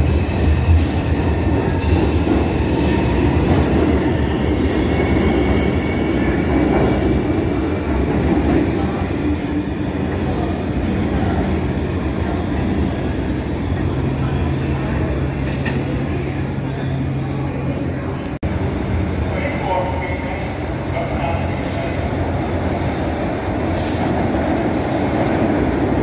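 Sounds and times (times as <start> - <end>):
subway train rumbling on rails: 0.0 - 26.0.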